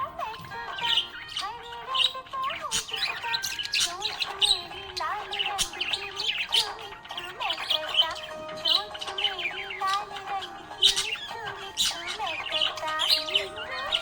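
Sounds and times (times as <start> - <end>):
budgerigar chattering and warbling: 0.0 - 14.0.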